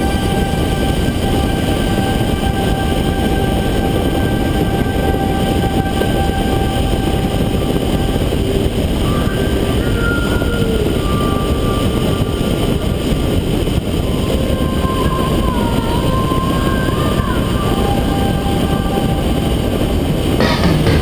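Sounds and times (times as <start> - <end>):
faint wavering tones: 0.0 - 20.4
aircraft engine and propeller drone: 0.0 - 21.0
wind rushing over camera: 0.0 - 21.0.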